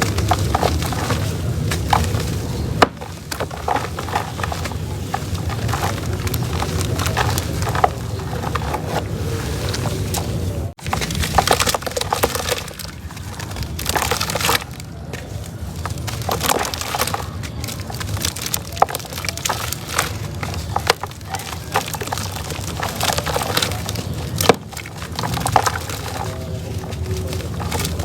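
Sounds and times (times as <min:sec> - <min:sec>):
cement crumbling and crackling: 0:00.0 - 0:28.0.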